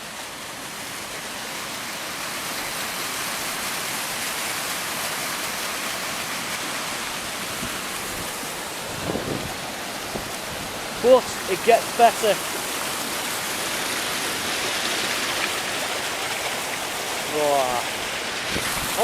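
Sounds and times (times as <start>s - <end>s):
rainwater rushing down mountainside: 0.0s - 19.0s.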